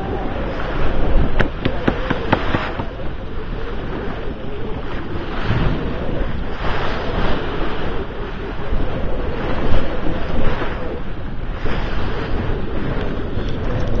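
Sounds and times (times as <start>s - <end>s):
sea water rushing along hull: 0.0s - 14.0s
wind buffeting microphone: 0.0s - 14.0s.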